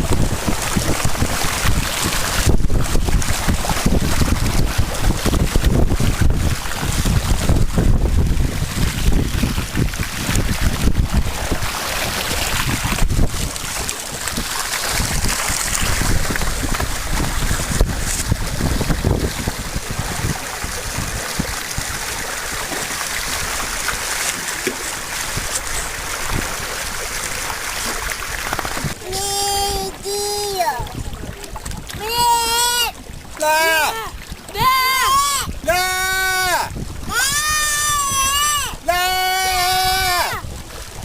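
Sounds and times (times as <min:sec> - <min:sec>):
water rushing along hull: 0:00.0 - 0:41.0
wind buffeting microphone: 0:00.0 - 0:41.0.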